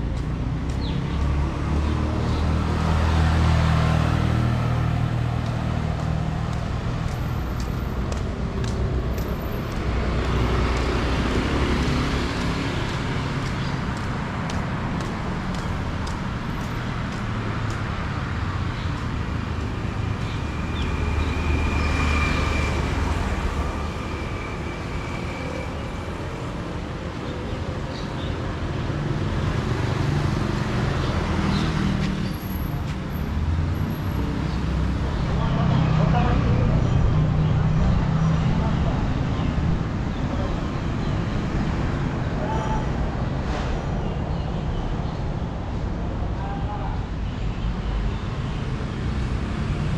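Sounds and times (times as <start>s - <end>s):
road vehicles passing: 0.0s - 49.9s.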